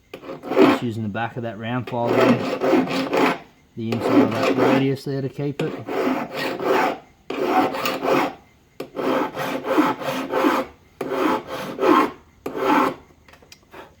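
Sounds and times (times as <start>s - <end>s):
file rasping across steel blade: 0.1s - 1.0s, 1.8s - 5.0s, 5.6s - 13.1s.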